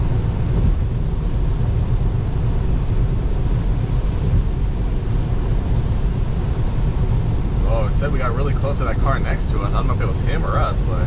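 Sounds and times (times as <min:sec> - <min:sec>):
rain on car: 0:00.0 - 0:11.0.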